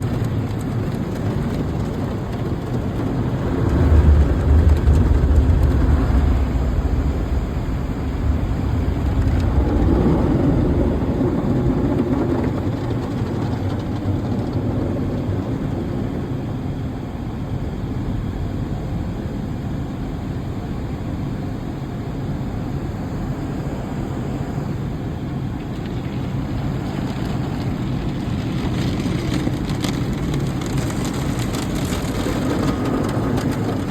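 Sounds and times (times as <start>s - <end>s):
car wash machinery rumble: 0.0s - 33.9s.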